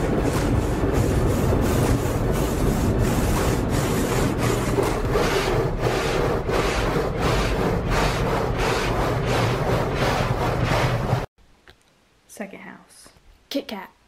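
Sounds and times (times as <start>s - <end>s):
brushes scrubbing car body: 0.0s - 11.3s
water spraying: 0.0s - 11.3s.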